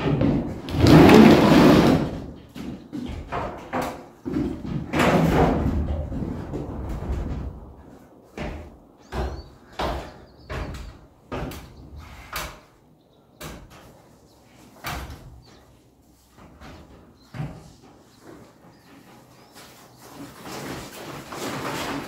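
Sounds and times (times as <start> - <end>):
footsteps on metal ladder: 0.0 - 22.0.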